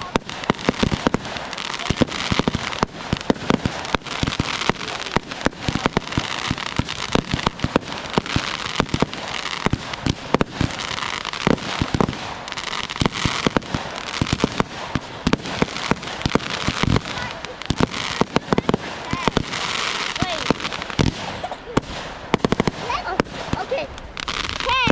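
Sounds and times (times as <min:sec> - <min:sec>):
fireworks bangs: 0:00.0 - 0:24.9
fireworks crackle: 0:00.0 - 0:24.9.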